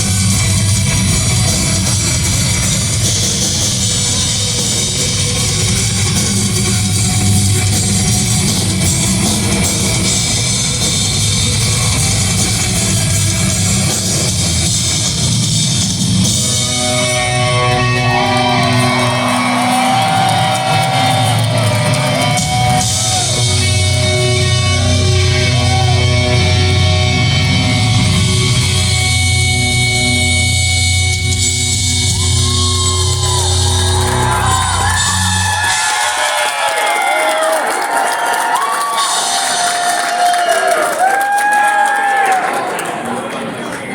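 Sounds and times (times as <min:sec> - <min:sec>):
electric guitar melody with bent notes: 0:00.0 - 0:35.8
heavy metal band playing live: 0:00.0 - 0:37.5.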